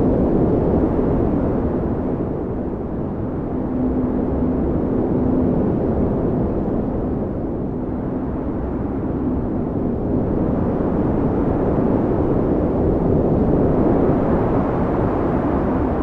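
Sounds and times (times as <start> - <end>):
strong wind blowing: 0.0 - 16.0.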